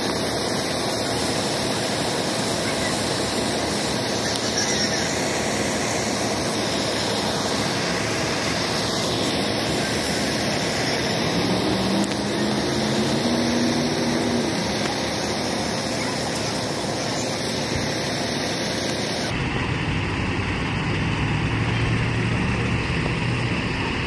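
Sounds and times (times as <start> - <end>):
broad hiss: 0.0 - 19.4
fire engine running: 0.0 - 24.0.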